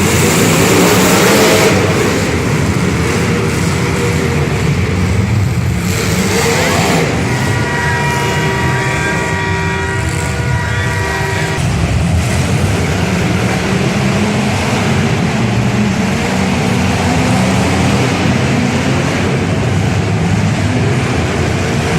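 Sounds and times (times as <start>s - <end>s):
car engines running loud: 0.0s - 21.9s.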